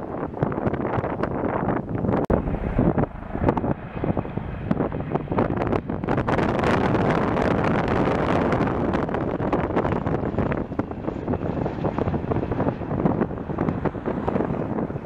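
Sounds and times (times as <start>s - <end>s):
helicopter rotor chop: 0.0s - 15.0s
turbine noise: 0.0s - 15.0s.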